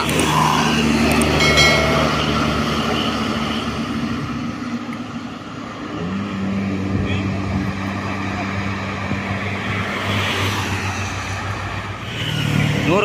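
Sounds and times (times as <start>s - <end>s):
diesel bus passing: 0.0s - 13.0s.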